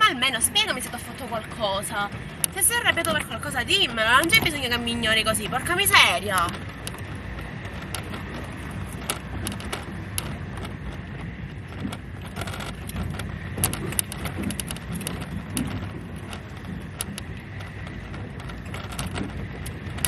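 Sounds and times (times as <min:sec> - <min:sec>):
car engine and road rumble: 0:00.0 - 0:20.0
small clicks and rattles: 0:00.0 - 0:20.0.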